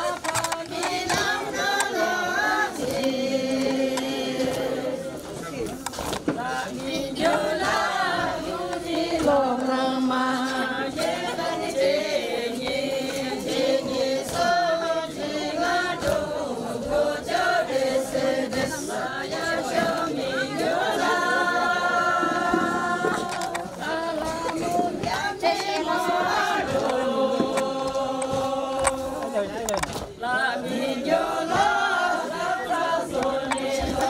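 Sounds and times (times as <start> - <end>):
group of voices singing: 0.0 - 34.0.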